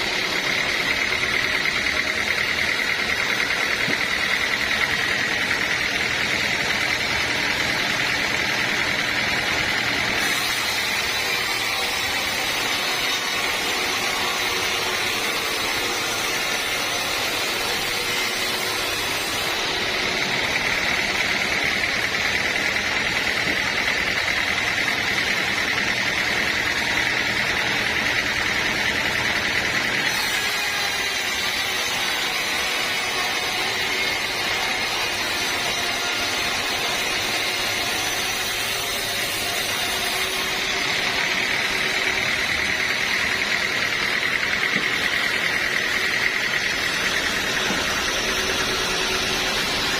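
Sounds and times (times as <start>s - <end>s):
sawmill saw cutting log: 0.0s - 49.9s.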